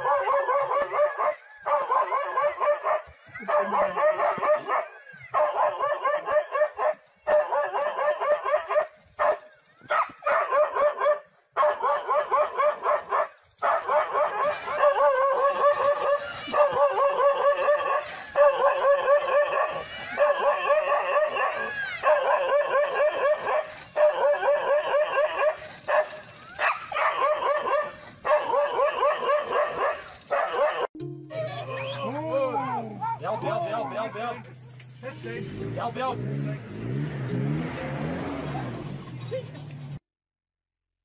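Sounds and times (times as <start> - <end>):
dogs barking and yelping: 0.0 - 34.9.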